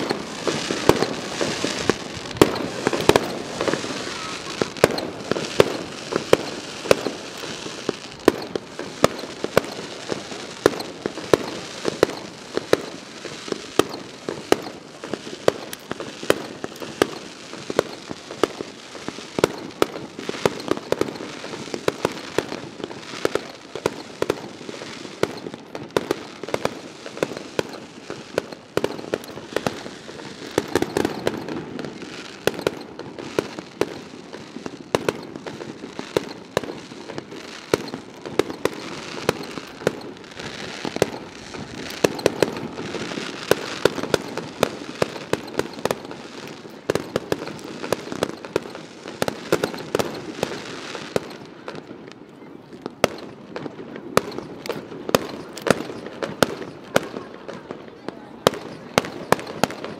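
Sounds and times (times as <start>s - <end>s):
firework shells bursting: 0.0s - 57.8s, 58.4s - 59.9s
fireworks crackling: 0.0s - 59.9s.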